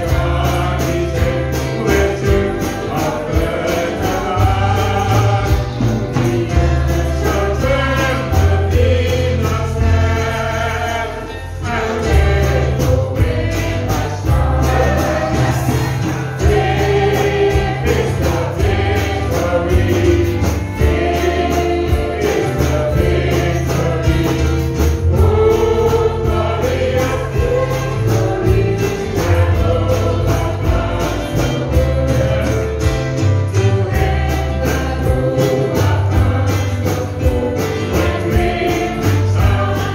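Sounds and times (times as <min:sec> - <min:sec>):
backing band with bass and beat: 0:00.0 - 0:39.9
gospel song by several vocalists: 0:00.0 - 0:39.9.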